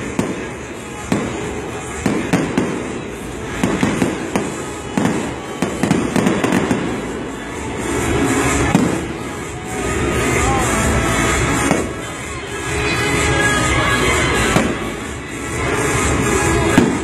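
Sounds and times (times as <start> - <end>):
fireworks bangs: 0.0 - 10.5, 11.3 - 12.6, 14.4 - 17.0
crackling firework bursts: 0.0 - 17.0
loud music: 0.0 - 17.0.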